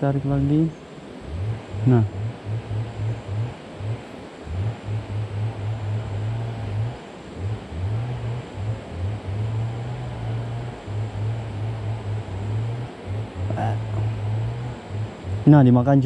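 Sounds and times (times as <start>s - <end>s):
even hiss: 0.0s - 16.0s
low motor drone: 0.0s - 16.0s.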